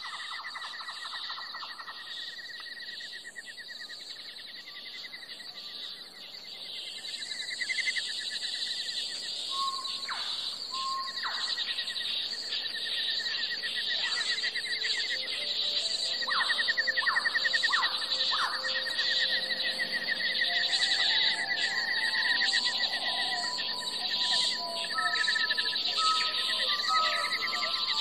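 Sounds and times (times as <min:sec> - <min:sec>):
crickets chirping in trills: 0:00.0 - 0:28.0.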